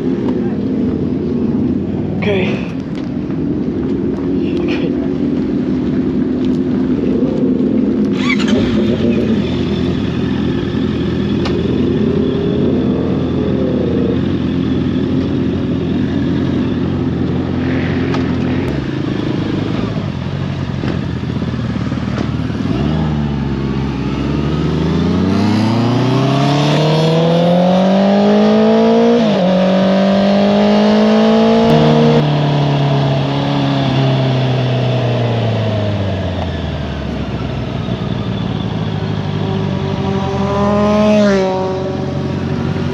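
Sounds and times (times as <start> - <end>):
motorcycle engine accelerating: 5.0 - 42.9.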